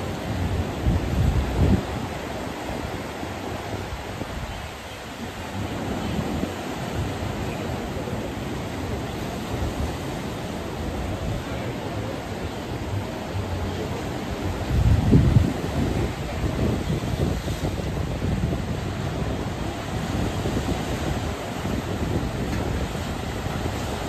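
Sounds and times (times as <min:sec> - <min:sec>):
waves breaking on rocky shore: 0:00.0 - 0:24.0
wind buffeting microphone: 0:00.0 - 0:24.0.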